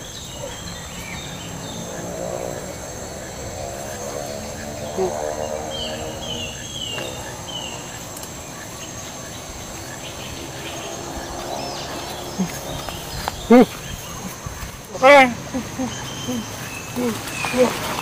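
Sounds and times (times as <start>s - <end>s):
bird chirps: 0.0s - 18.0s
insects buzzing: 0.0s - 18.0s.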